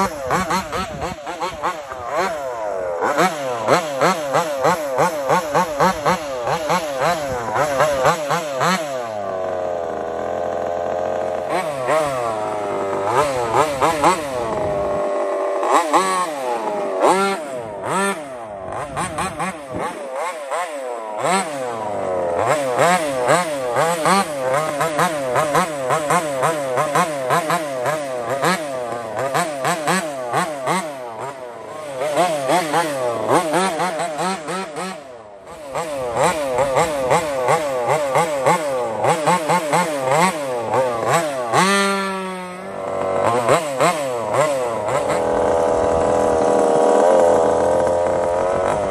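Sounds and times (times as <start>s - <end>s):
model car engine revving: 0.0s - 48.9s.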